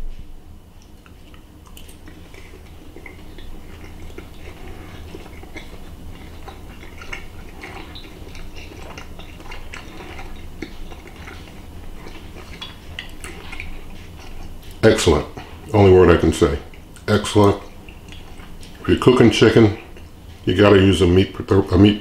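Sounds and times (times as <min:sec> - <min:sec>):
low steady hum: 0:00.0 - 0:22.0
person chewing: 0:00.7 - 0:15.9, 0:16.6 - 0:20.5.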